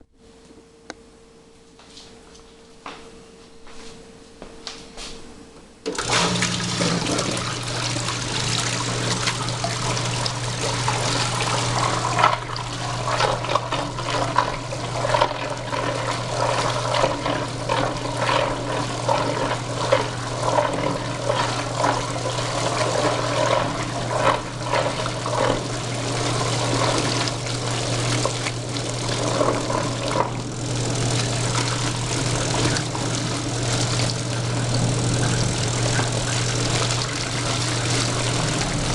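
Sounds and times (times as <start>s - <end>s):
washing machine motor humming: 5.5s - 38.9s
water sloshing in tub: 5.9s - 38.9s.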